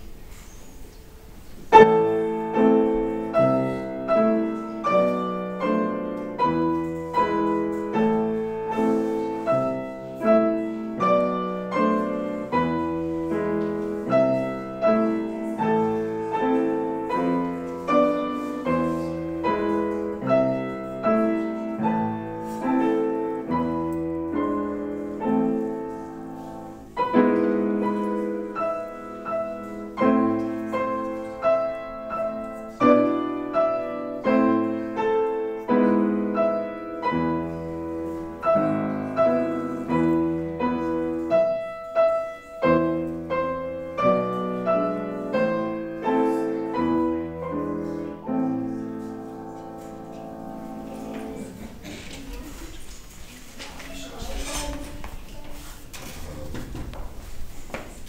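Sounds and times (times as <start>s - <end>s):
grand piano playing: 1.2s - 52.8s.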